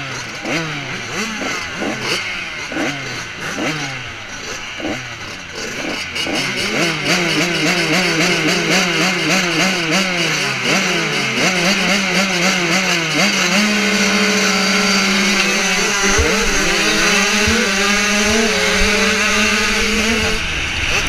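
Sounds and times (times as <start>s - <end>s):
motocross bikes revving: 0.0s - 21.0s.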